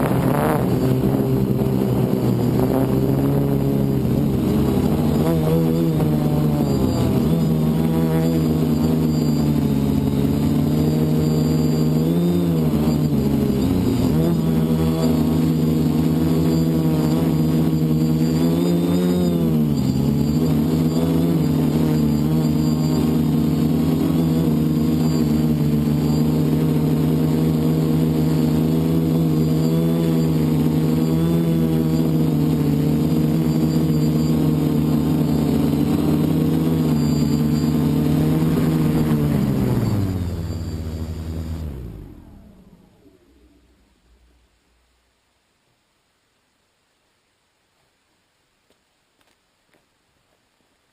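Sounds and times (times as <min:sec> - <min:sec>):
drone propellers buzzing: 0:00.0 - 0:44.5.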